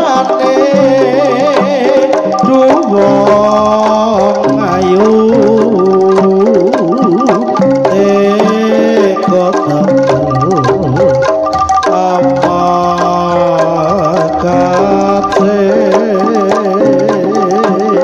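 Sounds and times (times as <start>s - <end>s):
hand drum strokes: 0.0s - 18.0s
ringing gamelan tones: 0.0s - 18.0s
wavering melodic line: 0.0s - 18.0s.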